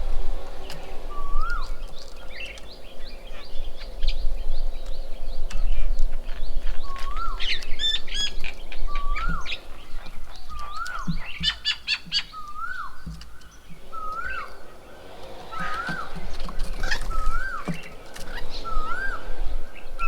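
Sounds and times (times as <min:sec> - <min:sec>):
bird whistling rising note: 0:00.0 - 0:05.4, 0:06.8 - 0:20.0
birds chirping sharply: 0:00.0 - 0:20.0.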